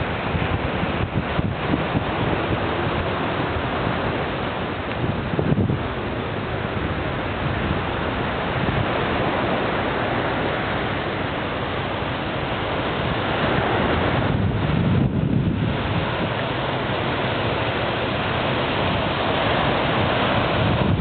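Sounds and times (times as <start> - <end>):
waves breaking on beach: 0.0 - 21.0
wind on microphone: 0.0 - 21.0.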